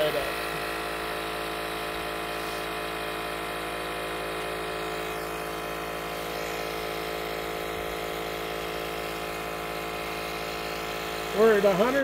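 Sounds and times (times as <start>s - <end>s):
cordless air pump humming: 0.0s - 12.0s.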